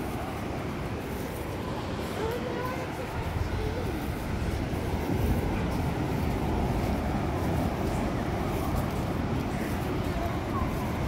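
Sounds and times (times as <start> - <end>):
surf washing on shore: 0.0 - 11.0
wind buffeting microphone: 0.0 - 11.0.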